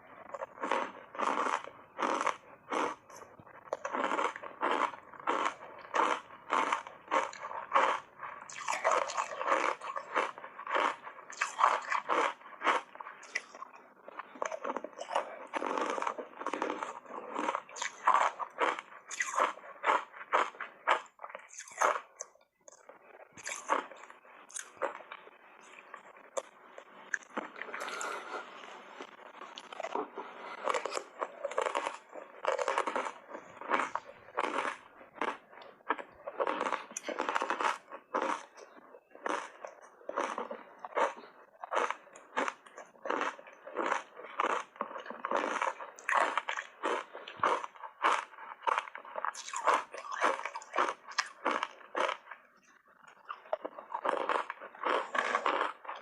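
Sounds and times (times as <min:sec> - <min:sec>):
crunchy ice bites and chewing: 0:00.2 - 0:28.2, 0:29.0 - 0:52.4, 0:53.1 - 0:56.0.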